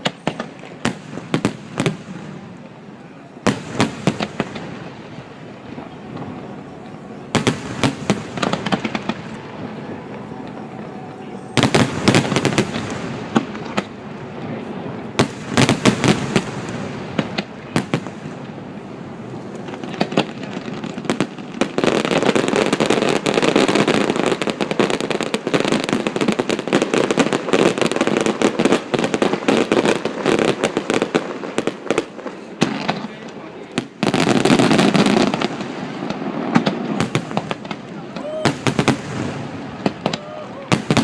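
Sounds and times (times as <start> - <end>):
fireworks bangs: 0.0 - 41.0
fireworks pops and crackles: 0.0 - 41.0.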